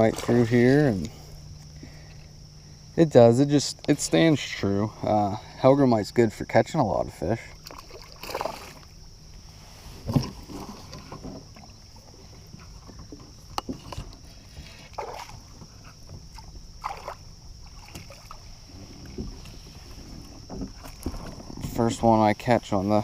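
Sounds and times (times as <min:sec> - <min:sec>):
water swishes: 0:00.0 - 0:05.5, 0:07.1 - 0:23.0.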